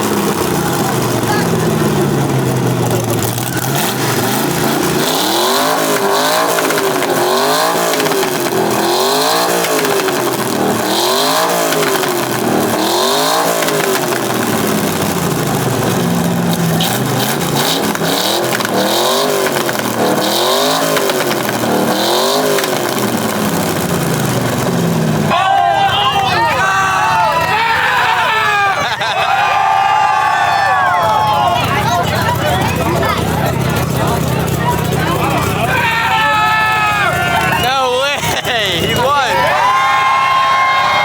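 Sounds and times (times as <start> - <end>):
car engine revving hard: 0.0 - 25.3, 30.8 - 41.0.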